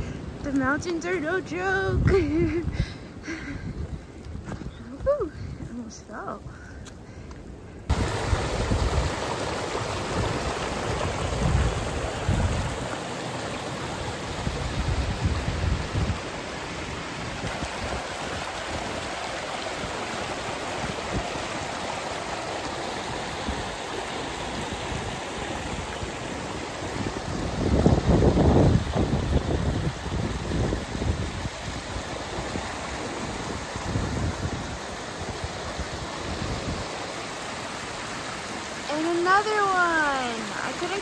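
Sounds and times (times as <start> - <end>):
wind buffeting microphone: 0.0 - 37.0
stream splashing over rocks: 7.9 - 41.0.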